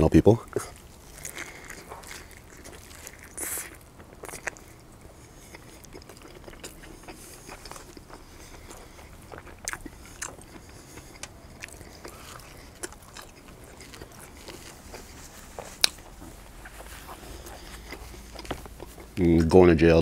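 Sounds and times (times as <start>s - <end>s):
biting and chewing burger: 0.2s - 19.6s.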